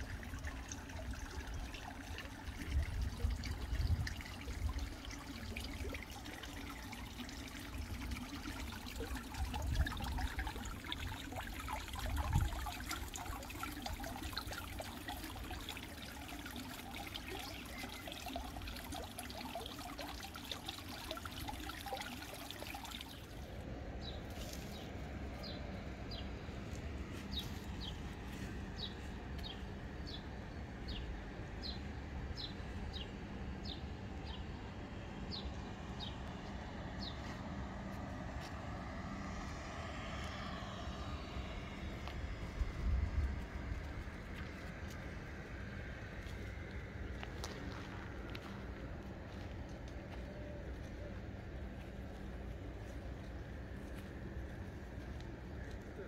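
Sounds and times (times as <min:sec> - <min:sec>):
pool water trickling and splashing: 0:00.0 - 0:56.0.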